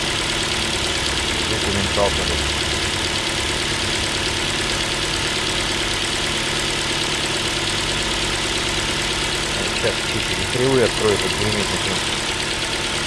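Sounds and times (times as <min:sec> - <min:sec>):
car engine idling: 0:00.0 - 0:13.0
fast regular engine knock: 0:00.0 - 0:13.0.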